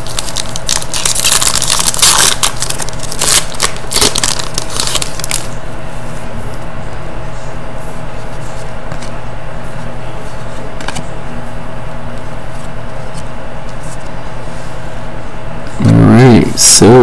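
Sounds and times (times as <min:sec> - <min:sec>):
background hum and hiss: 0:00.0 - 0:17.0.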